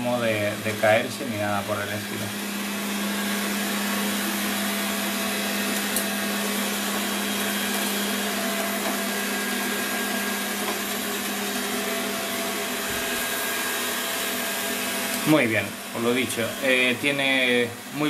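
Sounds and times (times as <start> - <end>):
robot vacuum whirring: 0.1 - 18.0.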